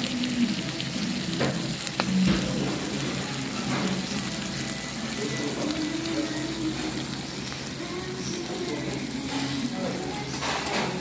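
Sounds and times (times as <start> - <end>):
food sizzling in a hot pot: 0.0 - 11.0.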